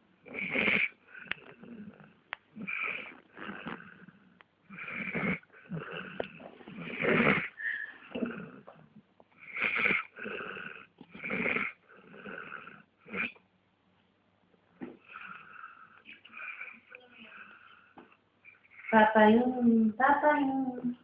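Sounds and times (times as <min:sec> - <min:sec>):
pet snoring: 0:00.2 - 0:13.4, 0:15.0 - 0:19.8.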